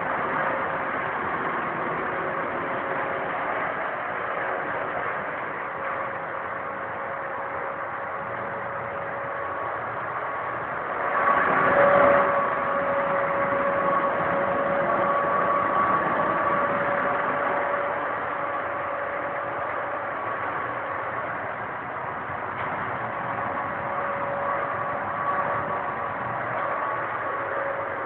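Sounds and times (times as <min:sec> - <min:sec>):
tram running with whining hum: 0:00.0 - 0:28.0.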